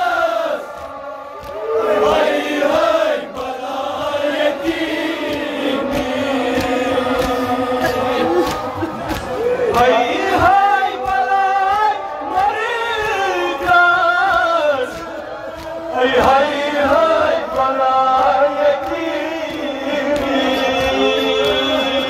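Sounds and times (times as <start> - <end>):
men chanting into microphones: 0.0 - 22.0.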